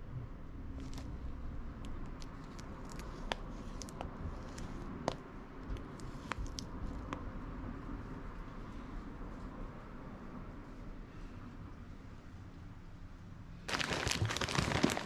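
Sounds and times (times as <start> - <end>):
low steady rumble: 0.0 - 13.7.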